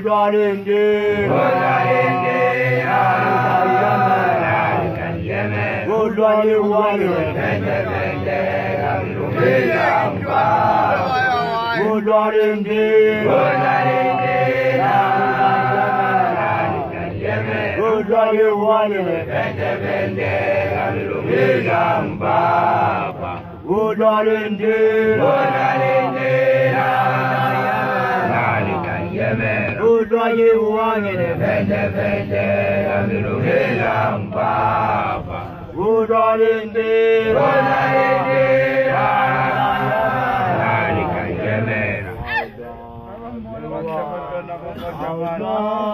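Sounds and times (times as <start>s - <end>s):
men chanting a song: 0.0s - 45.9s.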